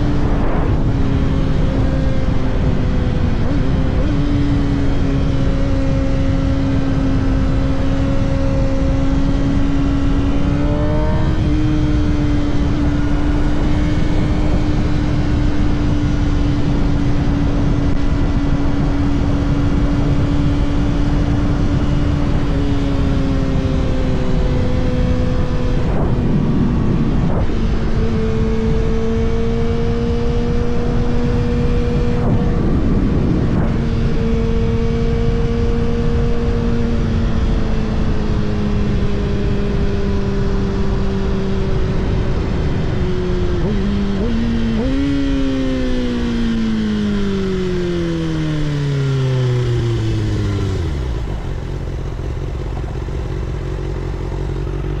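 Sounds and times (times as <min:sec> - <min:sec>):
heavy wind noise: 0:00.0 - 0:55.0
motorcycle engine cruising: 0:00.0 - 0:55.0.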